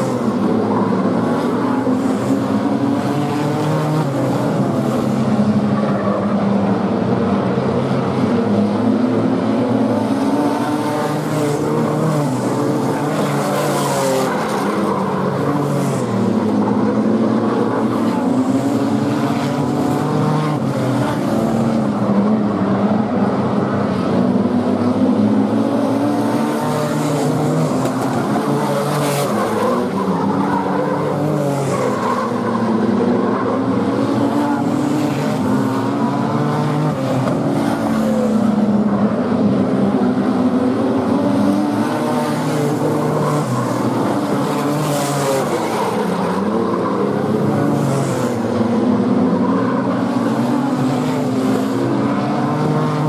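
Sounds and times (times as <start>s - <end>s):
racing car engines running hard: 0.0s - 53.0s.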